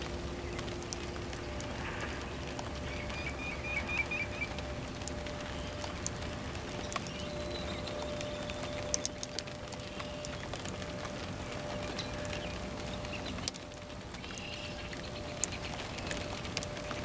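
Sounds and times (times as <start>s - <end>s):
faint steady hum: 0.0s - 17.0s
steady low hiss: 0.0s - 17.0s.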